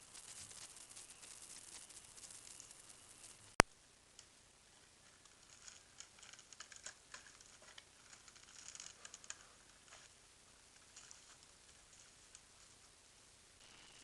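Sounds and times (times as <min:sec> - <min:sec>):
faint scratching and clicking: 0:00.0 - 0:14.0.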